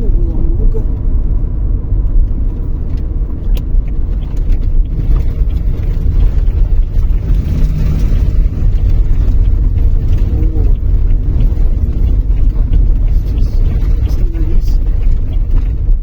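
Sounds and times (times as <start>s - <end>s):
car tyres rumbling on grit: 0.0s - 16.0s.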